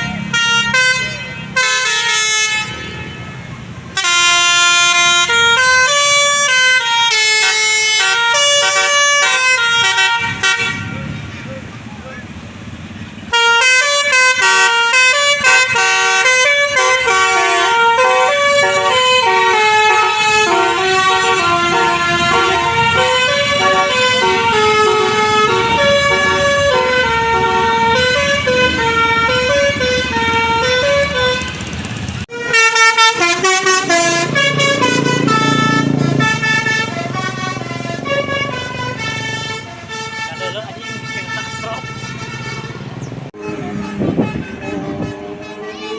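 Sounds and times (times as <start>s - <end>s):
musical air horn melody: 0.0s - 3.4s, 4.0s - 11.0s, 13.3s - 31.7s, 32.3s - 45.9s.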